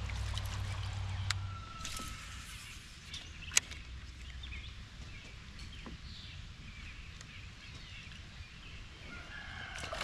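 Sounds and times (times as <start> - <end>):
low outdoor rumble: 0.0 - 9.4
birds chirping: 0.2 - 10.0.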